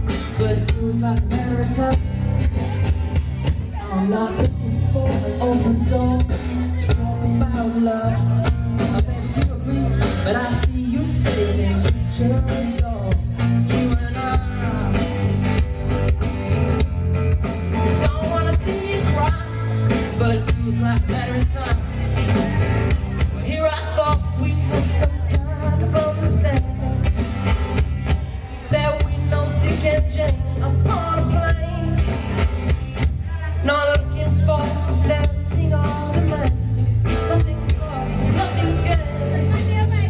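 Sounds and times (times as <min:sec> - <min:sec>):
live band playing blues rock: 0:00.0 - 0:40.0
person singing: 0:00.0 - 0:40.0
steady bass line: 0:00.0 - 0:40.0.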